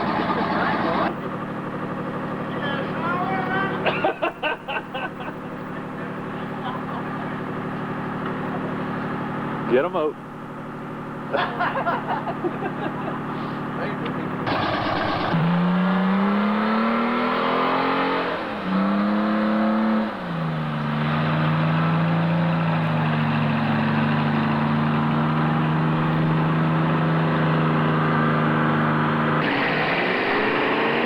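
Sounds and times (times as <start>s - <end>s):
truck engine pulling hard: 0.0s - 31.0s.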